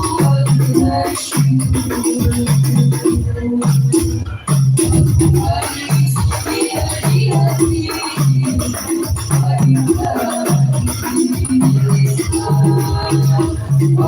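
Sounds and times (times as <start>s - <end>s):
frame drums playing rhythm: 0.0s - 14.0s
jingling percussion: 0.0s - 14.0s.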